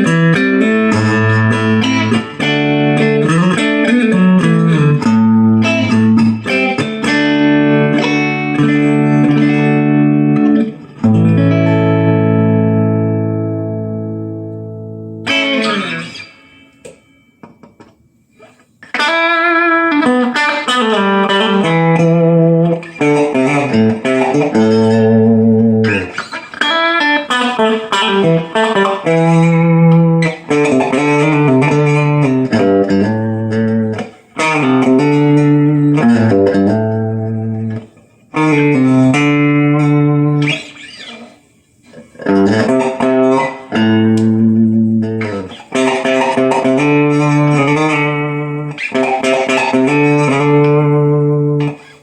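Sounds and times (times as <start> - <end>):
electric guitar chords: 0.0 - 52.0.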